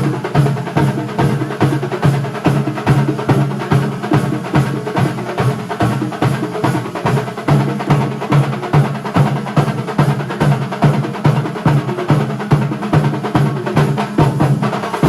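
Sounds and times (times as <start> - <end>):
percussion ensemble drumming: 0.0 - 15.0.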